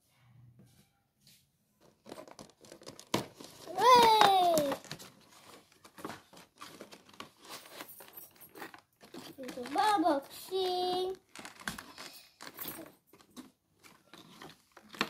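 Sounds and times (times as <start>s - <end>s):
packaging crinkling and tearing: 2.0s - 15.0s.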